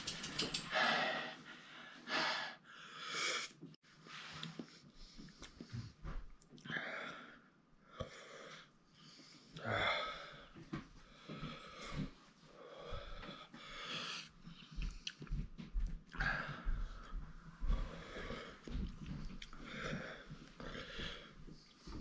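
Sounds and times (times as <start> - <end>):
man breathing hard and wheezing: 0.6 - 3.7, 5.1 - 14.9, 16.1 - 22.0.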